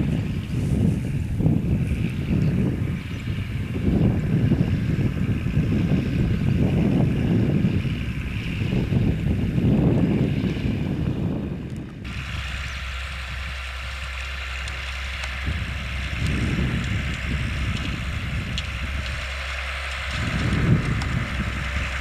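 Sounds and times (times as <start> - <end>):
tractor diesel engine running: 0.0 - 22.0
wind on microphone: 0.0 - 22.0.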